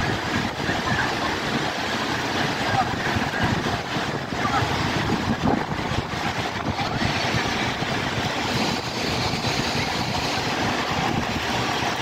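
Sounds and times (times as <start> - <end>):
passing traffic: 0.0 - 12.0
wind rumbling on microphone: 0.0 - 12.0.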